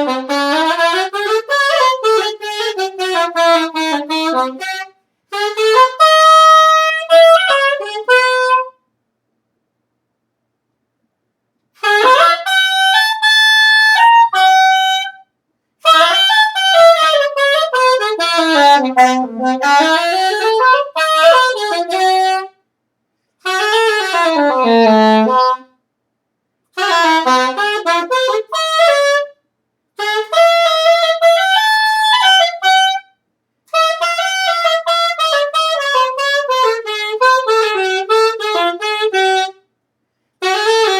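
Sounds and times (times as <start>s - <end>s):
solo wind instrument: 0.0s - 8.9s, 11.8s - 22.6s, 23.2s - 25.8s, 26.7s - 29.4s, 30.0s - 40.9s.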